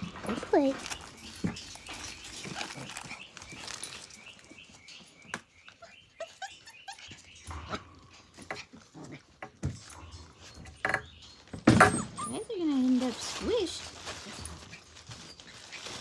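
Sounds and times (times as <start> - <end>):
puppies whimpering and yipping: 0.0 - 8.9, 11.4 - 16.0.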